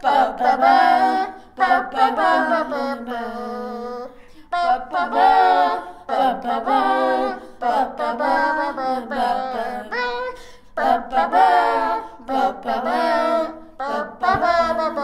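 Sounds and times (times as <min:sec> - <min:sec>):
child singing wordless melody: 0:00.0 - 0:15.0.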